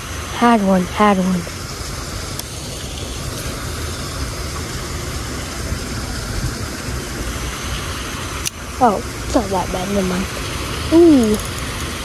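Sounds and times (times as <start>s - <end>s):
water pouring over a spillway: 0.0s - 12.0s.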